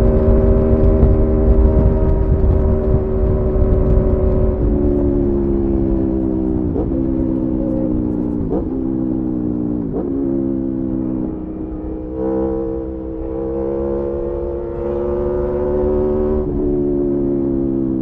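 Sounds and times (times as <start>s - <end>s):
low wind rumble: 0.0s - 18.0s
motorcycle engine running: 0.0s - 18.0s.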